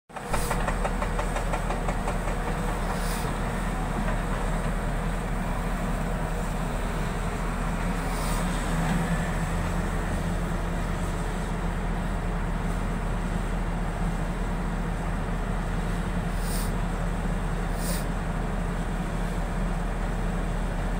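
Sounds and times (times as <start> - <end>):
excavator diesel engine running: 0.1 - 20.9.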